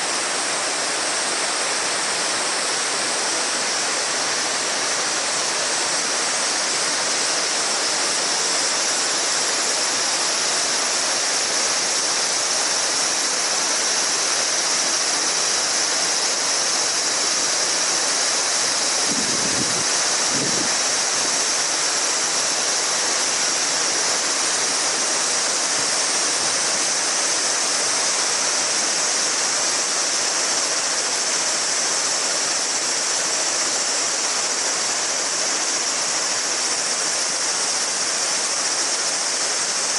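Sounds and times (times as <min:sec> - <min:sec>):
cicada chorus: 0:00.0 - 0:39.9.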